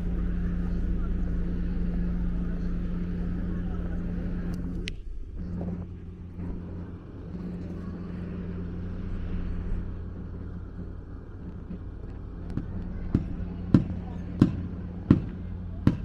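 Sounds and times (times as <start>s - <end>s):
engine running: 0.0s - 16.0s
street noise: 0.0s - 16.0s.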